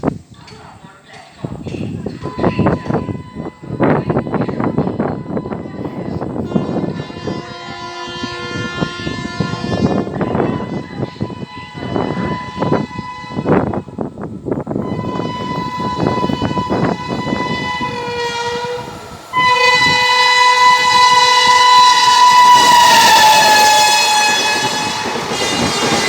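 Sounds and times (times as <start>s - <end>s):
locomotive triple-tone horn: 2.6s - 14.2s, 14.8s - 26.0s.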